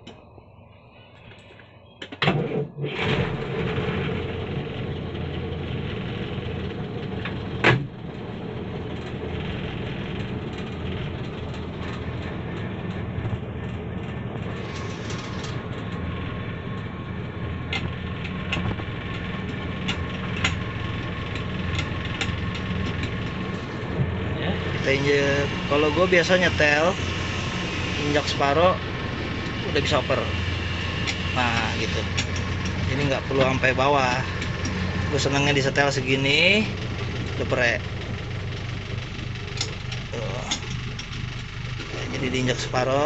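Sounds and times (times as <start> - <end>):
engine cranking and starting: 2.2 - 16.9, 17.6 - 43.0
engine idling: 2.9 - 43.0.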